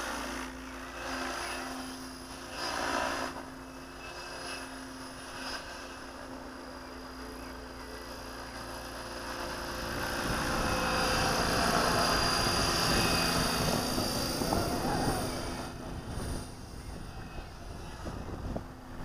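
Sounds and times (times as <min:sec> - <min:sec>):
rc helicopter whine: 0:00.0 - 0:19.0.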